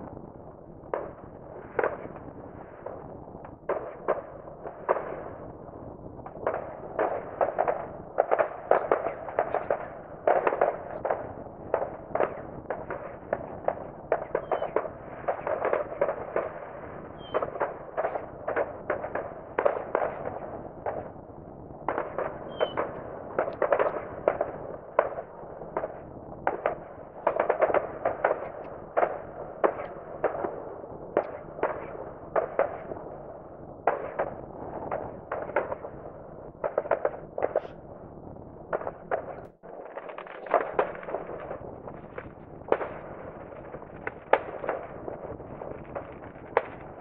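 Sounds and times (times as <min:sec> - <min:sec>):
faint fireworks crackling: 0:00.0 - 0:47.0
distant fireworks bangs: 0:00.9 - 0:05.4, 0:06.2 - 0:21.2, 0:21.8 - 0:37.8, 0:38.6 - 0:47.0.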